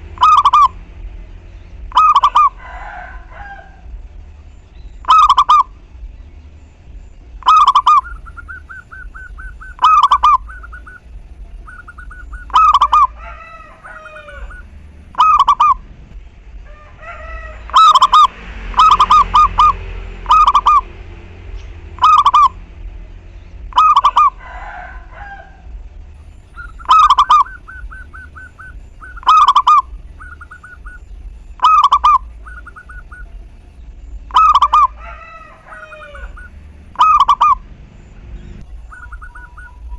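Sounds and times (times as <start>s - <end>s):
birds trilling: 0.0s - 39.9s
dove calling: 0.0s - 39.9s.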